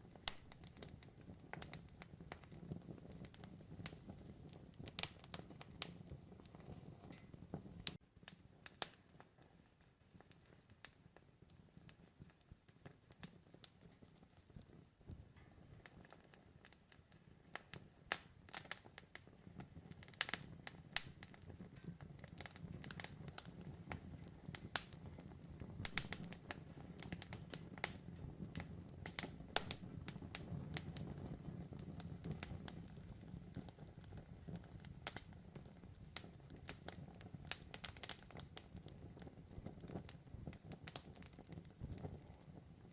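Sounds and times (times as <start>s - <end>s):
low rumble of flames: 0.0s - 42.9s
wood crackling and popping: 0.0s - 42.9s.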